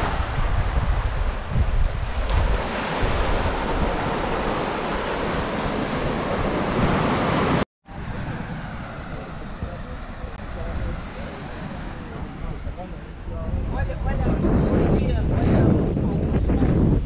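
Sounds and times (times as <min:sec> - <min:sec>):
waves washing up a beach: 0:00.0 - 0:13.9
wind buffeting the microphone: 0:00.0 - 0:17.0.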